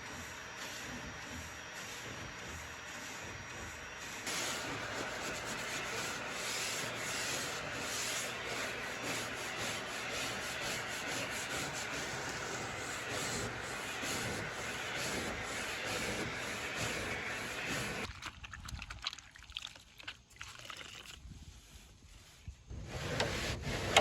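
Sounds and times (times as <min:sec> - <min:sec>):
sanding on wooden surface: 0:00.0 - 0:18.1, 0:21.6 - 0:24.0.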